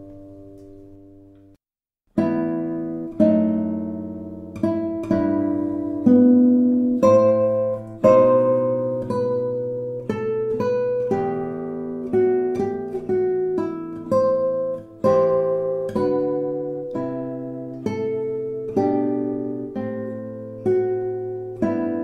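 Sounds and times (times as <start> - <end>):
solo classical guitar: 0.0 - 22.0.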